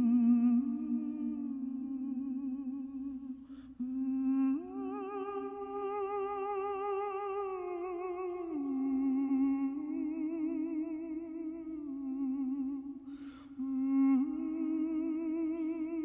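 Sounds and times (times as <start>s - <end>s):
person humming with vibrato: 0.0s - 12.8s.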